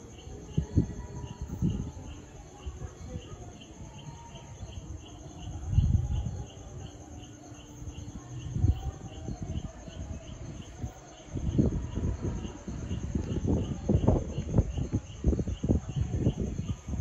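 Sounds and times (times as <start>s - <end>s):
cricket chirps: 0.0s - 17.0s
crickets trilling: 0.0s - 17.0s.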